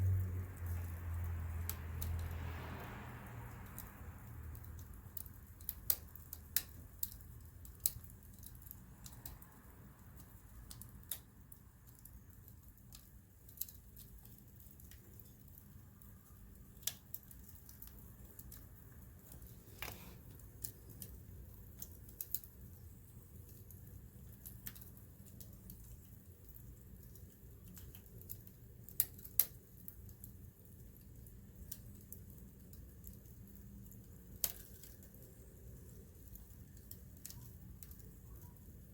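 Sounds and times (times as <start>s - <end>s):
campfire pops and snaps: 0.0s - 38.9s
low steady rumble: 0.0s - 38.9s.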